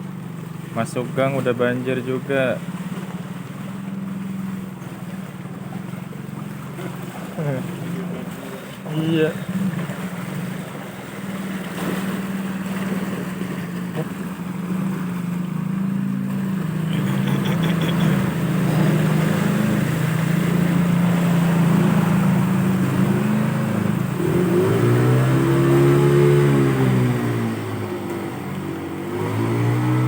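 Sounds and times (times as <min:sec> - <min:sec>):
vehicle engine running and revving: 0:00.0 - 0:30.0.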